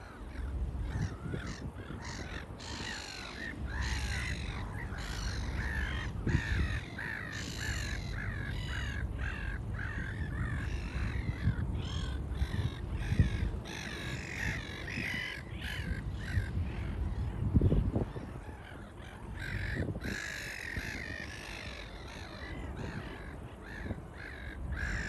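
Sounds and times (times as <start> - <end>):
birds cawing: 0.0 - 25.0
low rumble in gusts: 0.0 - 25.0.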